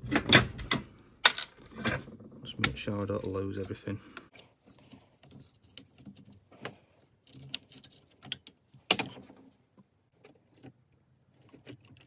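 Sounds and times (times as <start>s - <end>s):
plastic parts clicking and knocking: 0.0s - 3.7s, 4.3s - 12.0s.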